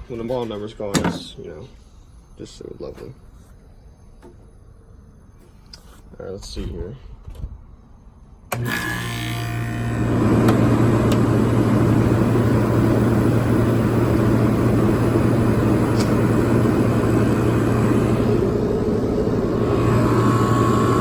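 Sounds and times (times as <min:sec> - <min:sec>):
compressor electrical hum: 0:00.0 - 0:21.0
fan rushing airflow: 0:00.0 - 0:21.0.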